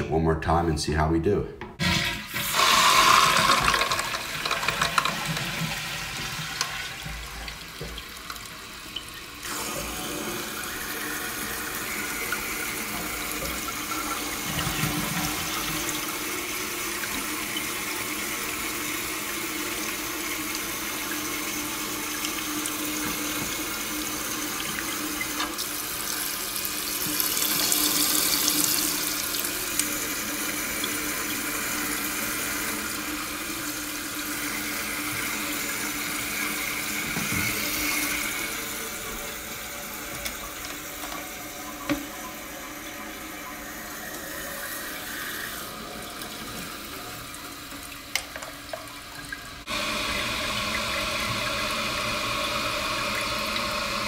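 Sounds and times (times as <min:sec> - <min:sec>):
water running into toilet tank: 0:01.8 - 0:54.0.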